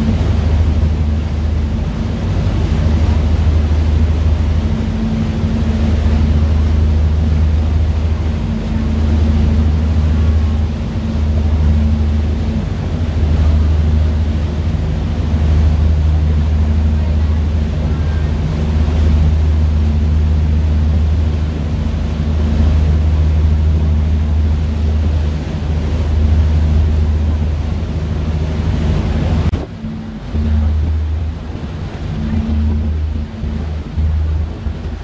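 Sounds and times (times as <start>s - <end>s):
ferry engines droning: 0.0s - 35.0s
wind and water rushing: 0.0s - 35.0s.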